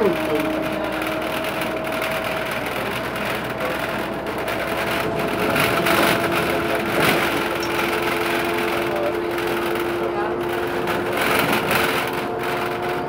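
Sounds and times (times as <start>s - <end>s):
bus diesel engine running: 0.0s - 13.0s
whining tones: 0.0s - 13.0s.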